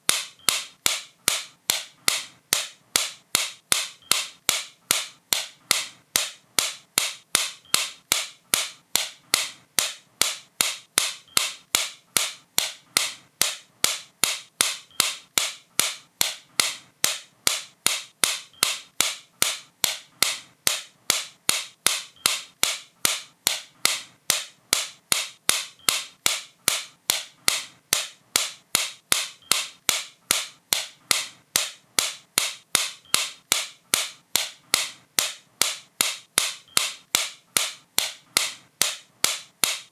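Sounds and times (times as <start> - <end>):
sharp crisp clicks: 0.0 - 39.9.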